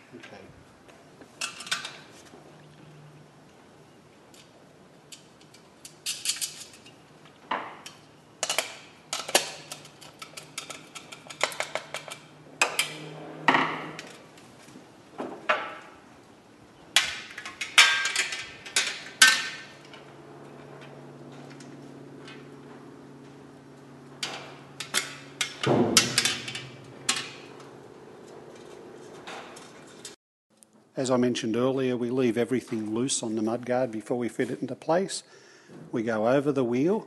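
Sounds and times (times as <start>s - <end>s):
low steady hum: 1.4s - 34.0s.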